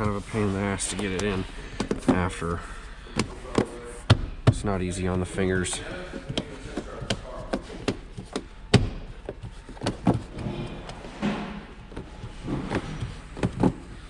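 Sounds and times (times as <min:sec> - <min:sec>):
rubbing and handling noise: 0:00.0 - 0:14.0.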